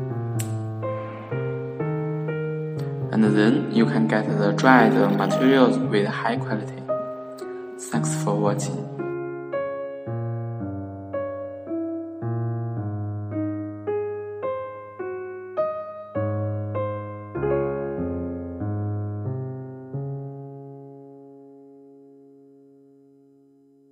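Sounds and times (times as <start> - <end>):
solo piano melody: 0.0 - 23.9.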